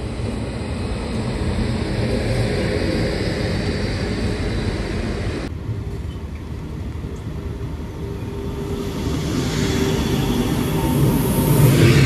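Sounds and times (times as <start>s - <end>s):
train passing close by: 0.0s - 12.0s
train rumble and wheel noise: 0.0s - 12.0s.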